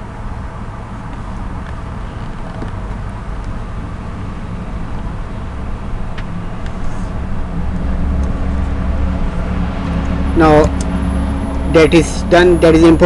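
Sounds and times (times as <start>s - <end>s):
background rumble and hiss: 0.0s - 13.0s.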